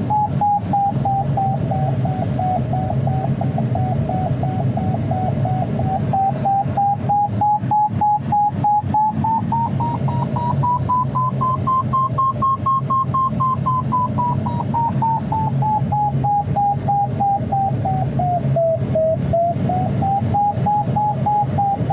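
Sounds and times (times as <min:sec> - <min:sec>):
airflow rushing around cockpit: 0:00.0 - 0:21.9
variometer beeping: 0:00.0 - 0:21.9.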